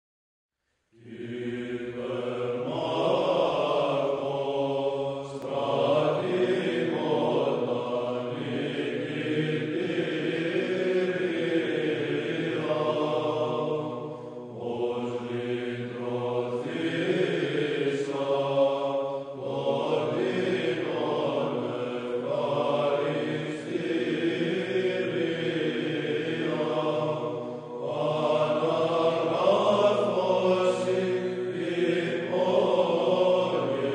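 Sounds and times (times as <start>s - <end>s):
slow vocal chant: 0.8s - 33.9s.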